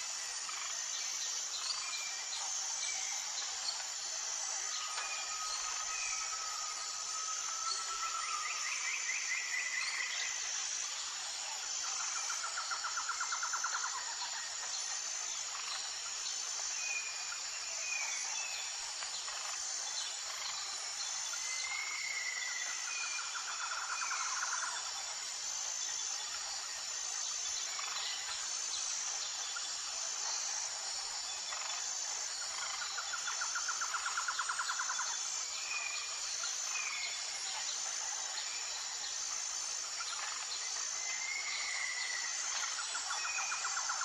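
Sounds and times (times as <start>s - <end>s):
insect chorus: 0.0s - 44.0s
rapid insect trill: 0.0s - 44.0s.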